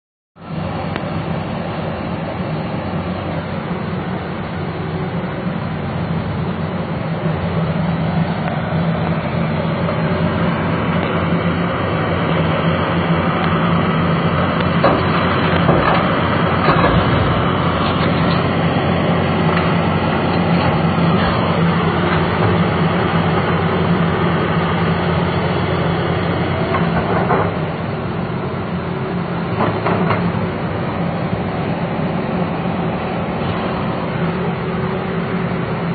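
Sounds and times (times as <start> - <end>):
excavator diesel engine running: 0.4 - 35.9.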